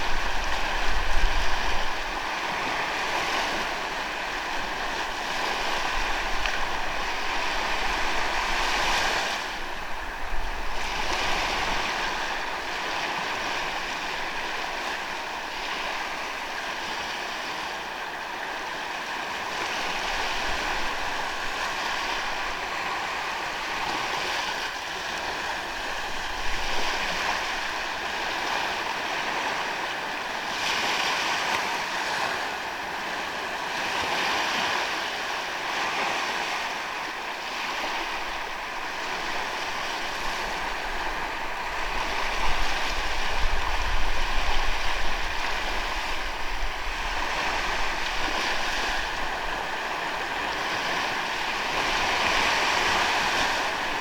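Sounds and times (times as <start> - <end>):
ocean waves on sandy beach: 0.0 - 54.0
wind rumble on microphone: 0.0 - 54.0.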